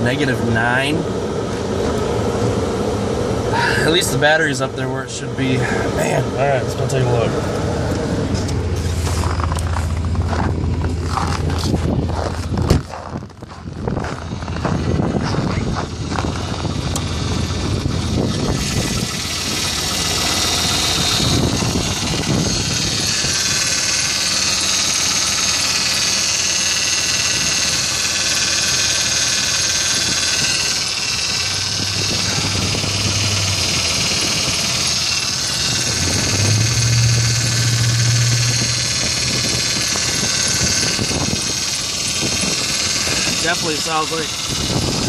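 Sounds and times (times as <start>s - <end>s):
car engine idling: 0.0s - 45.0s
power steering pump whine: 0.0s - 45.0s.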